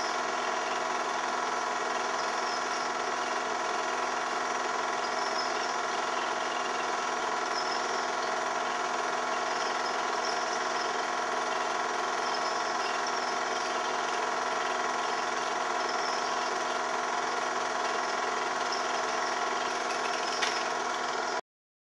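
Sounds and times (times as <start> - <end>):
film projector whirring: 0.0 - 21.4.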